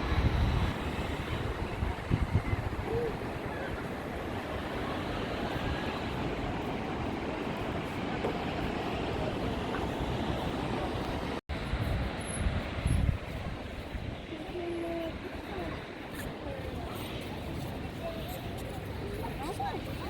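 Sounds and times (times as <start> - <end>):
sea: 0.0 - 20.0
wind: 0.0 - 20.0.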